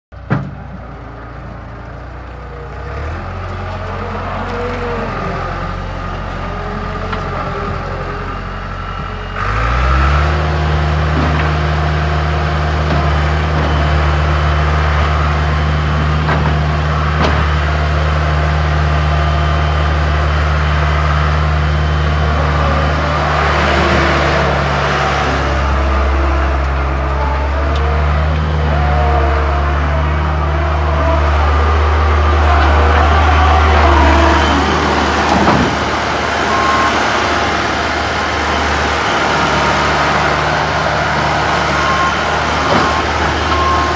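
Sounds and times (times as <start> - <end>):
diesel engine revving: 0.1 - 43.9.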